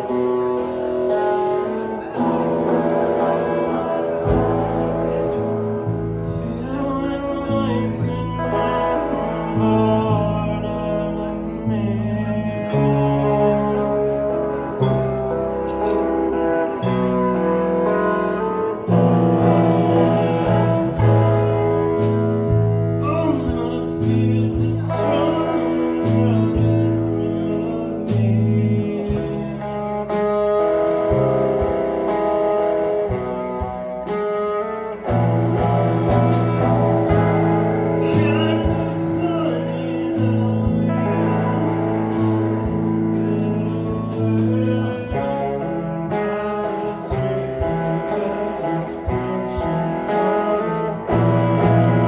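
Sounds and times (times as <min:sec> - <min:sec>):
held chords over bass line: 0:00.0 - 0:52.0
person singing: 0:00.0 - 0:52.0.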